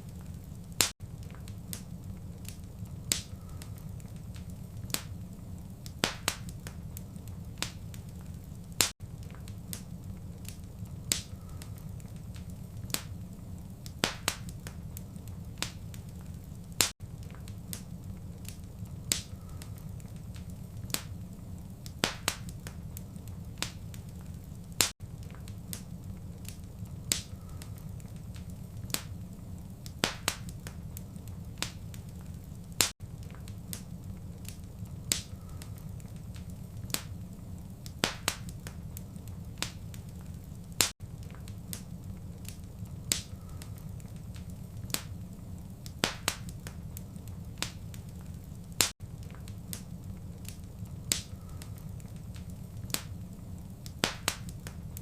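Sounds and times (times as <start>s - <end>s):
low steady rumble: 0.0s - 55.0s
sharp pops and snaps: 0.0s - 55.0s
wood fire crackling: 0.0s - 55.0s.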